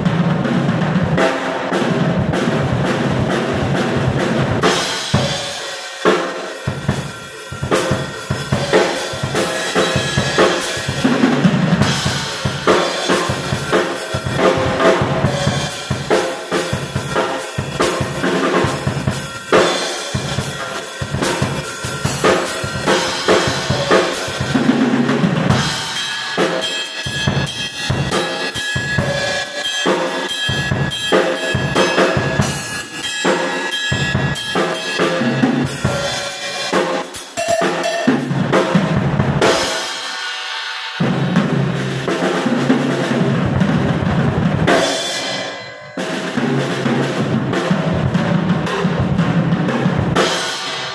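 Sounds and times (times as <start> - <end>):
drum kit playing: 0.0 - 50.9.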